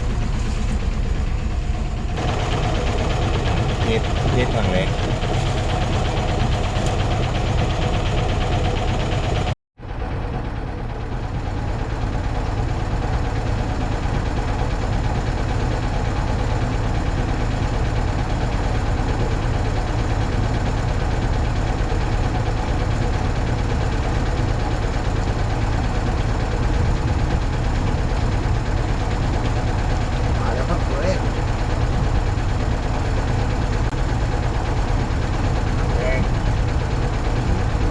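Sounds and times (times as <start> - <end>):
boat engine droning: 0.0 - 37.9.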